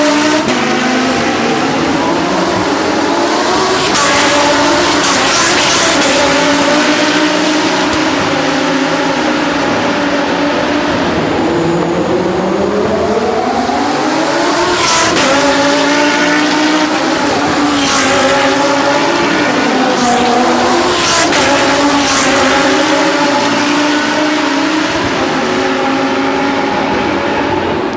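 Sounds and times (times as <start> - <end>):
race car engines revving: 0.0 - 27.9.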